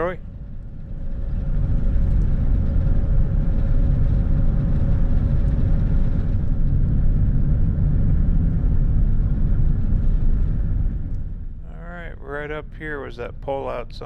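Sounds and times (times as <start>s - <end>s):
vehicle engine and tyre noise: 0.1s - 12.4s.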